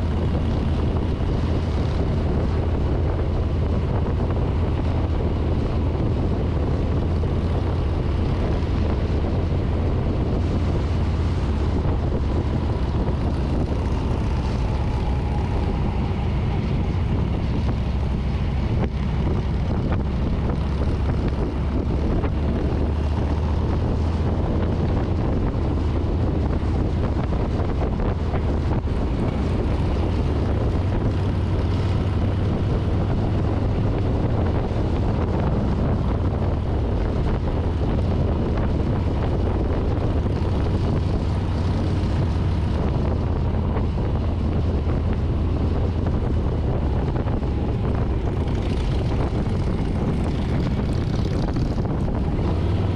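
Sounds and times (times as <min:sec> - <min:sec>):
motorcycle engine running: 0:00.0 - 0:52.9
wind buffeting microphone: 0:00.0 - 0:52.9.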